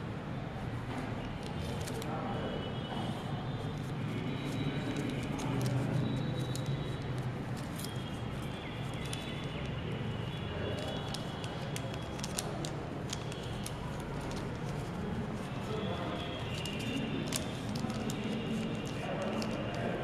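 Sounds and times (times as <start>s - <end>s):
paper rustling as it is folded: 1.3s - 2.2s, 3.1s - 20.0s.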